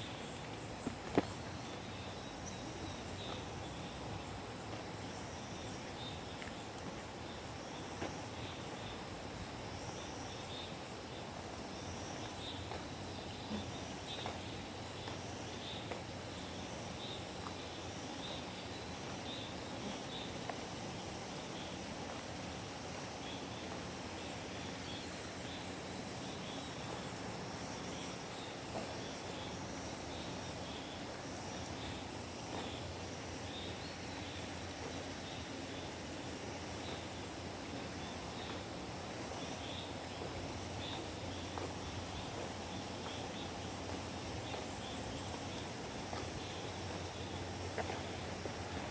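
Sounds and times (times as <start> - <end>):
steady hiss: 0.0 - 48.9.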